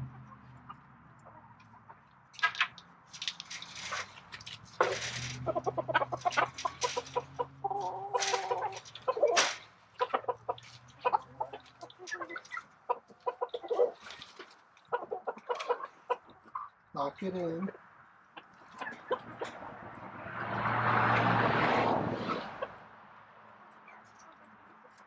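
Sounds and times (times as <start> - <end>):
chickens clucking: 0.0 - 20.7, 23.6 - 25.0.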